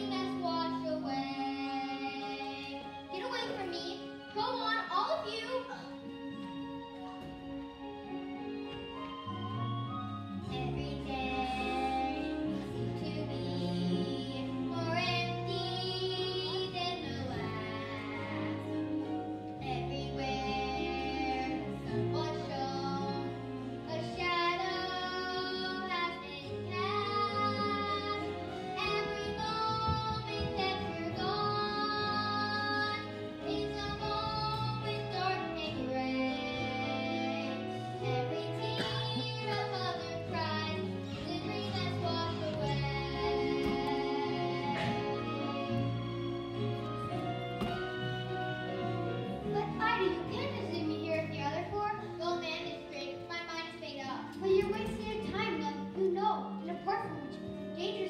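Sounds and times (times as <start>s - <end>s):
child singing: 0.0s - 5.9s, 10.4s - 18.8s, 19.6s - 23.3s, 23.9s - 46.0s, 49.5s - 58.0s
instrumental accompaniment: 0.0s - 58.0s.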